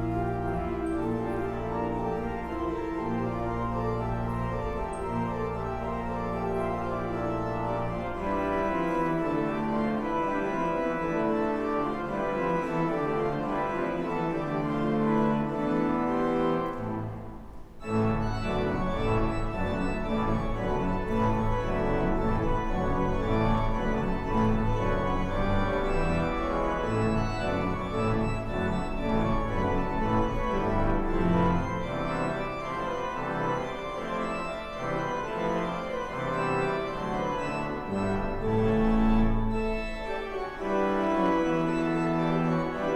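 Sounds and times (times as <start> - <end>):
church organ chords: 0.0 - 42.9.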